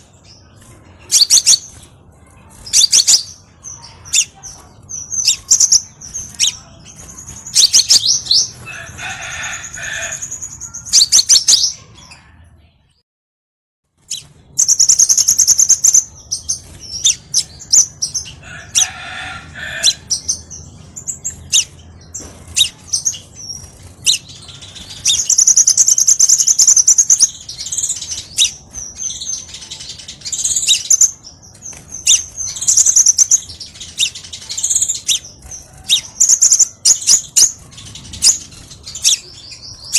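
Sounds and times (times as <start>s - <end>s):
sunbird chirping and trilling: 0.0s - 12.9s, 14.0s - 39.9s.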